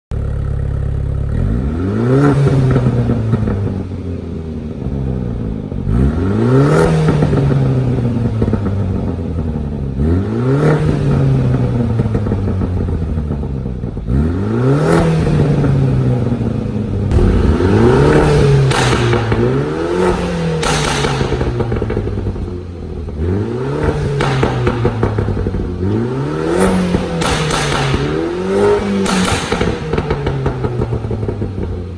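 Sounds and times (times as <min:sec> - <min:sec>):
exhaust popping and crackling: 0:00.1 - 0:31.9
car engine revving: 0:01.3 - 0:31.9.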